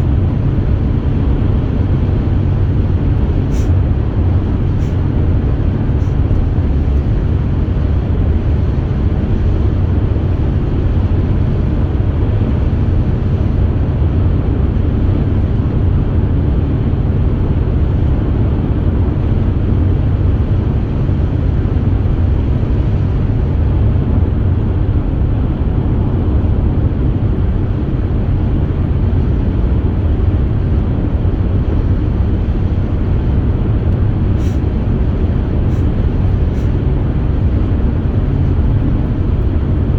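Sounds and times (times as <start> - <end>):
car cabin road noise: 0.0 - 39.9.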